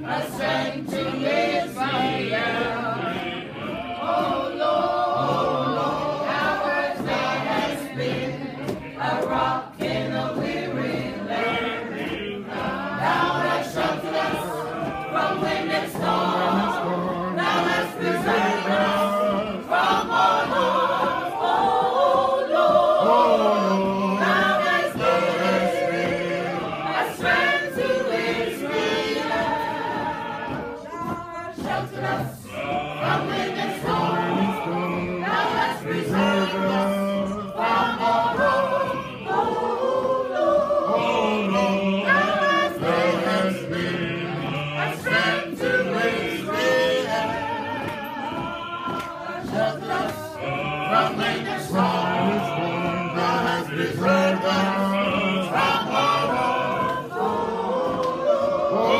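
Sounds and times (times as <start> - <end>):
gospel choir singing: 0.0 - 58.9
sharp regular beats: 0.0 - 58.9.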